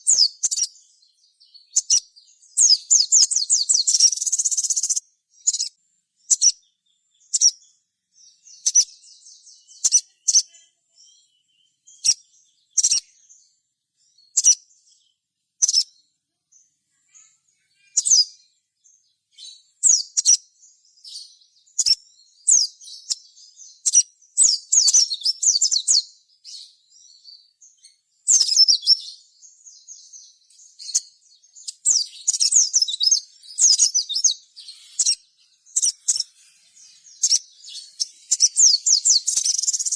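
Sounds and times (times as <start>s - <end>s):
bird chirping and chattering: 0.0s - 13.4s, 14.2s - 15.0s, 15.6s - 16.0s, 17.0s - 18.5s, 19.4s - 39.9s.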